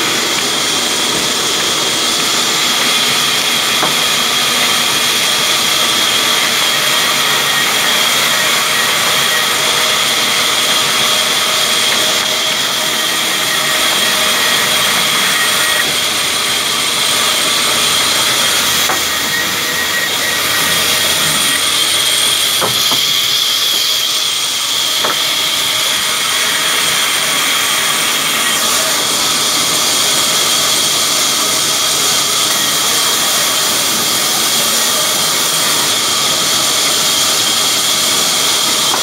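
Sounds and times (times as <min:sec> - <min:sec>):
sawmill machinery running: 0:00.0 - 0:39.0.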